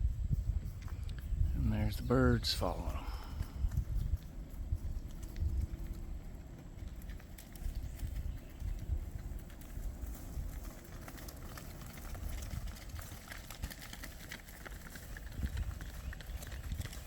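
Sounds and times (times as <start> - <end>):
cattle hooves clopping: 0.0 - 17.0
low steady rumble: 0.0 - 17.0.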